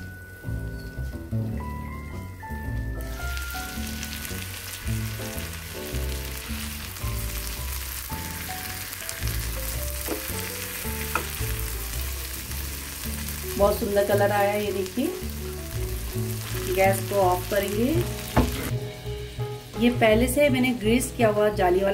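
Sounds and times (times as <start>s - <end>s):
background music: 0.0s - 21.9s
chicken sizzling in oil: 2.1s - 21.9s.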